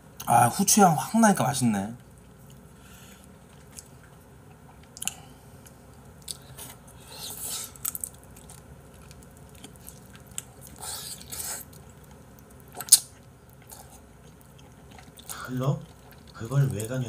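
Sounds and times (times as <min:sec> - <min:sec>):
person chewing with wet smacks: 0:02.0 - 0:17.0.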